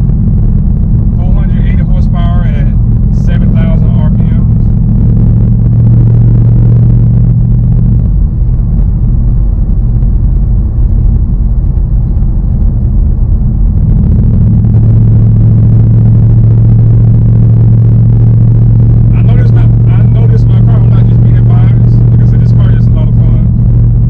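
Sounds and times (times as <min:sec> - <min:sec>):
car engine low drone: 0:00.0 - 0:24.0.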